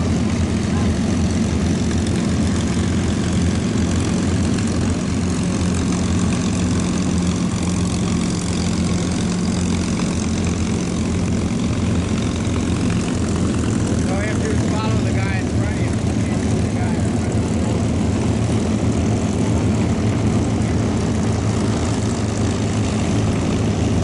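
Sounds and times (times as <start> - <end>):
propeller aircraft engines humming: 0.0 - 24.0.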